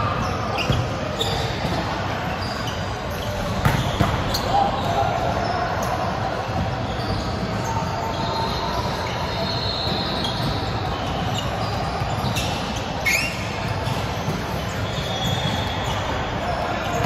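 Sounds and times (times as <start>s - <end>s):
din of indoor sports hall: 0.0s - 17.0s
sneakers squeaking on wooden floor: 0.1s - 17.0s.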